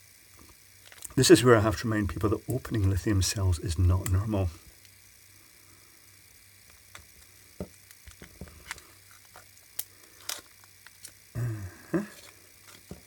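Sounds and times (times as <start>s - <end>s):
faint electronic hum: 0.0s - 13.0s.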